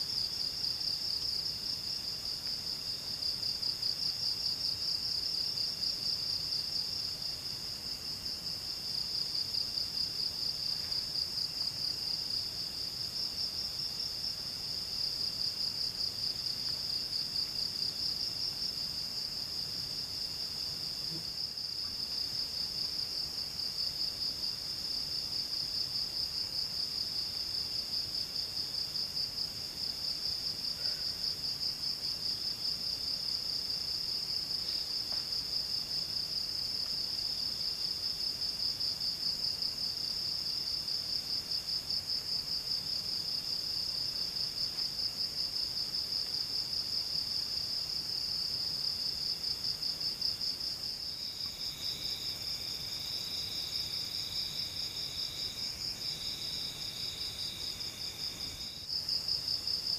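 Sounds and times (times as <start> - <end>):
lower insect trill: 0.0 - 59.9.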